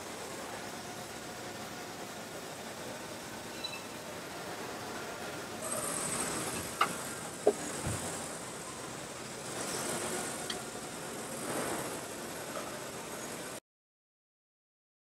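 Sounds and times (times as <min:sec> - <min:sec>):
factory machinery hissing: 0:00.0 - 0:13.6.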